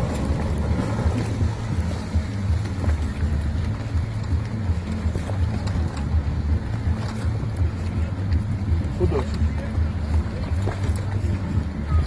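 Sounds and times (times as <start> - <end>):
distant jet ski: 0.0 - 12.0
wind buffeting microphone: 0.0 - 12.0.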